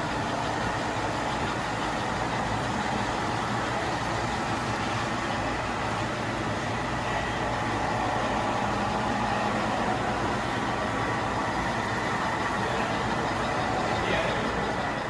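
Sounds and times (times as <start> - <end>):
model trains running: 0.0 - 15.0.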